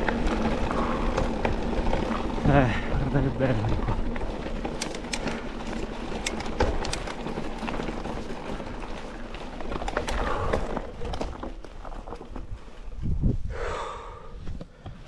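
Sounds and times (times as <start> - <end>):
bike clicks and rattles: 0.0 - 13.2
tyre and wind rumble: 0.0 - 15.0.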